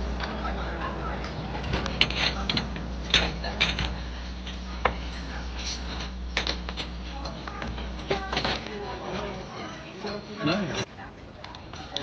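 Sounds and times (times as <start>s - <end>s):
faint voices: 0.0s - 12.0s
steady low hum: 0.0s - 12.0s.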